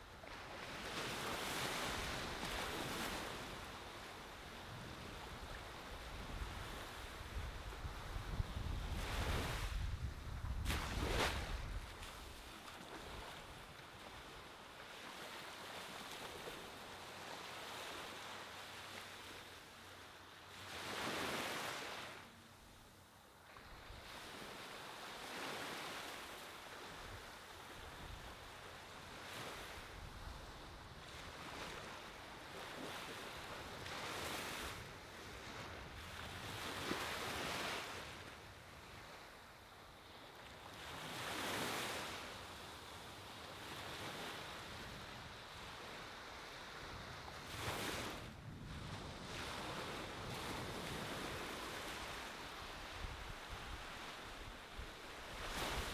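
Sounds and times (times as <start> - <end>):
ocean waves breaking on beach: 0.0 - 22.4, 23.5 - 55.9.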